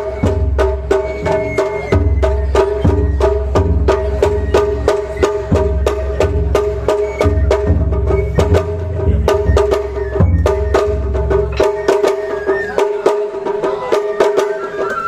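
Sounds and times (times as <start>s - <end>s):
festival drums and percussion: 0.0s - 15.0s.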